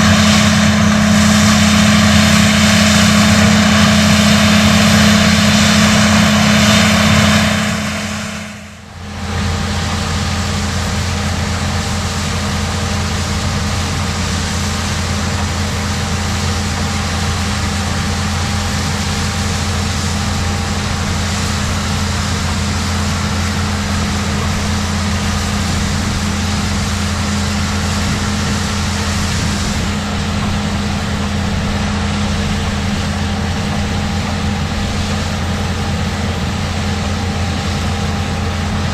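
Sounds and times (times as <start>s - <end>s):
tractor and combine droning: 0.0s - 38.9s.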